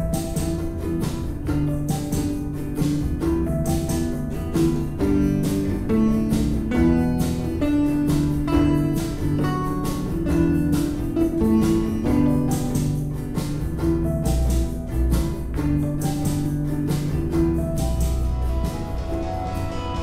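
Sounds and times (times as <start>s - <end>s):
guitar music with steady beat: 0.0s - 20.0s.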